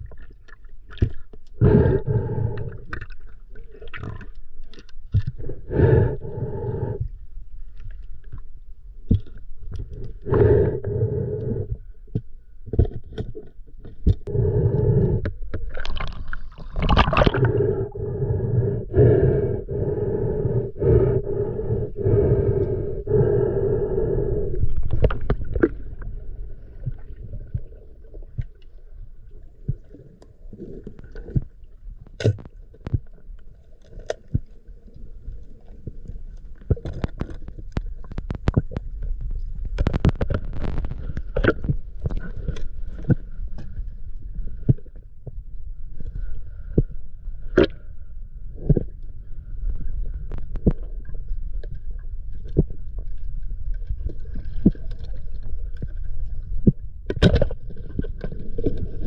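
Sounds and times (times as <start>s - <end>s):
low underwater rumble: 0.0s - 59.0s
underwater hum with overtones: 0.0s - 59.0s.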